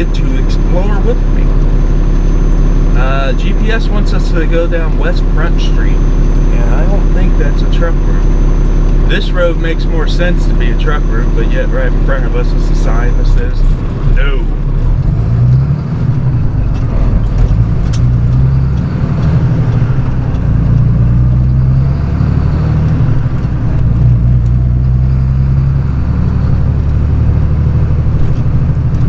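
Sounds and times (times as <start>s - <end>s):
truck engine droning: 0.0s - 29.0s.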